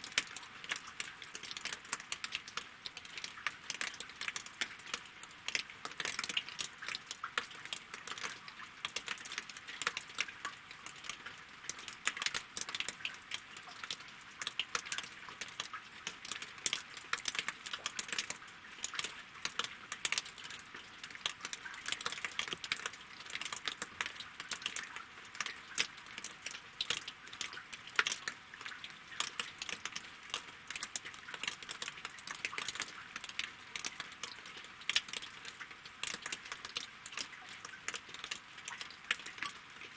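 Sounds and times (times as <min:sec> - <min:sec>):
rain pattering on water and logs: 0:00.0 - 0:39.9.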